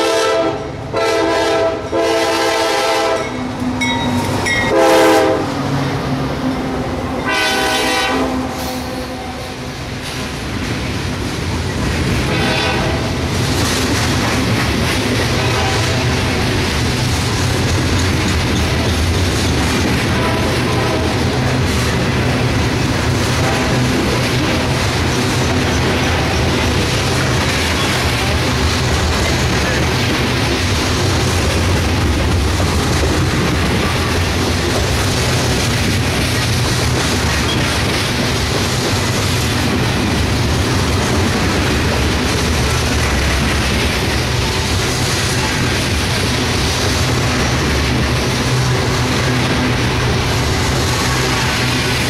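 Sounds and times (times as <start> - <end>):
freight train wheels rolling: 0.0 - 52.0.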